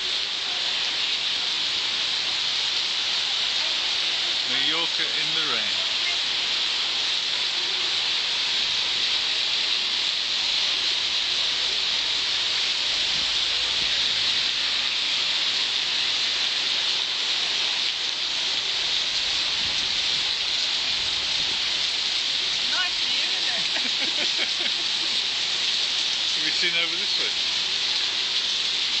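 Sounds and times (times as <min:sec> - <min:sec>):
heavy rain on pavement: 0:00.0 - 0:29.0.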